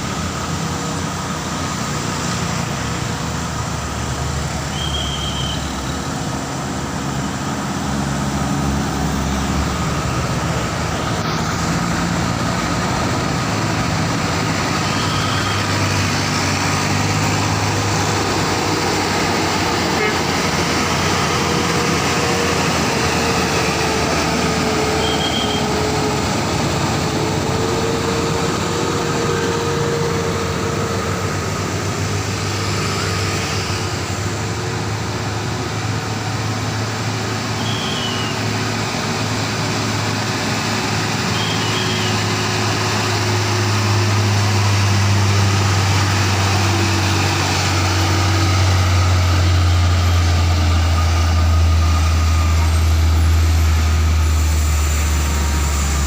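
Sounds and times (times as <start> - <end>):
heavy vehicles passing: 0.0 - 56.0
tyres on road: 0.0 - 56.0.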